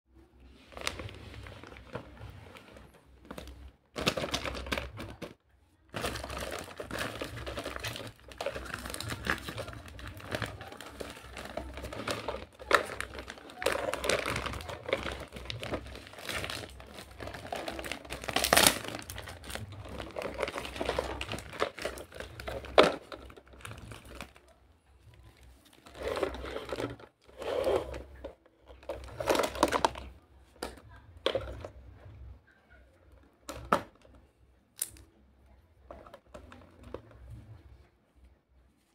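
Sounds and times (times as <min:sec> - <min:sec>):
plastic bag crinkling: 0:00.5 - 0:31.7.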